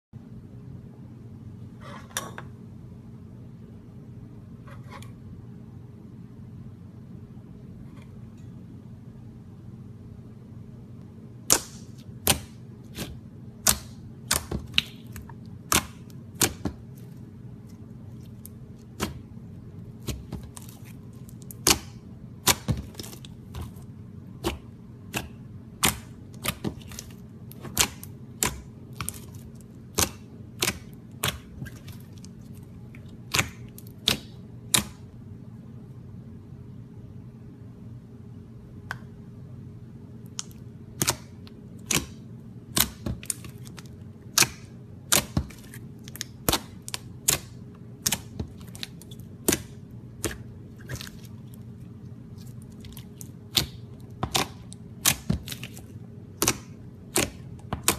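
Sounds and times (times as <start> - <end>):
steady low hum: 0.1 - 57.9.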